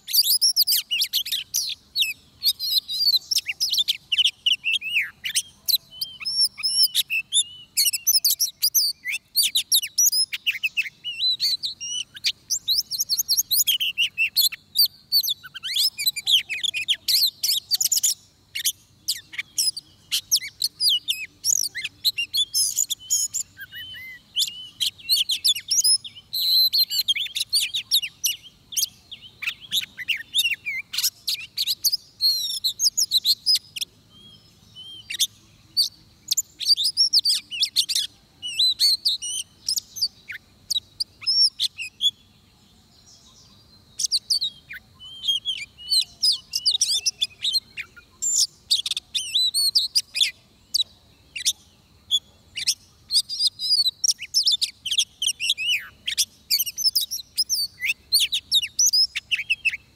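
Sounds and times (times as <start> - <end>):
bird singing whistled trills: 0.0 - 59.9.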